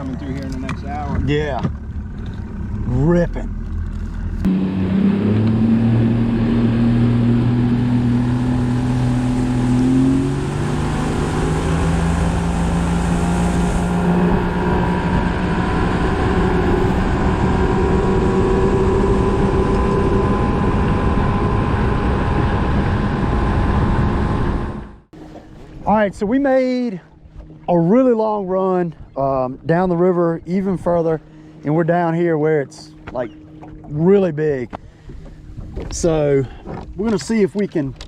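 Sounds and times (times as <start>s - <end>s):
outboard motor running at speed: 0.0s - 38.0s.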